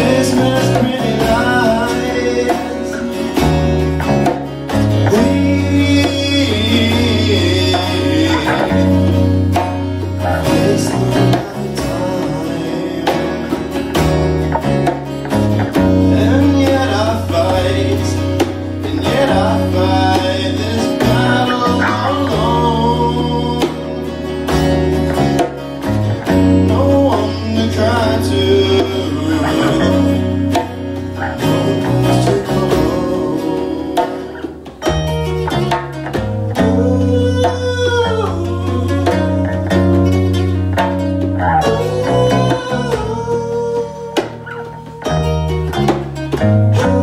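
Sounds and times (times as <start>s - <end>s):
man singing: 0.0s - 15.0s, 15.6s - 24.5s, 26.2s - 35.8s, 36.5s - 47.0s
acoustic guitars strummed: 0.0s - 47.0s
hand drum rhythm: 0.0s - 47.0s.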